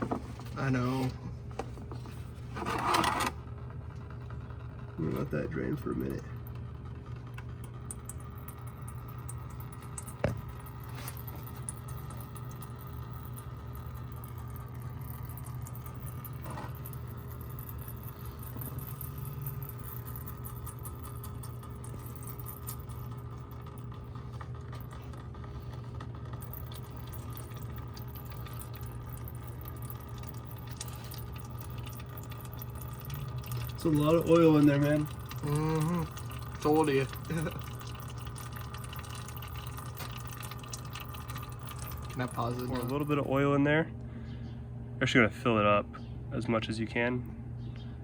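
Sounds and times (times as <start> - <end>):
steady low hum: 0.0 - 48.0
oil draining into a pan: 3.4 - 43.5.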